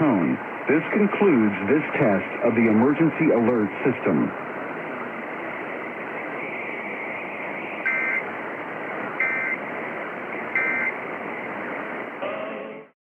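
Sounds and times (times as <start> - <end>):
radio hiss: 0.0 - 12.9.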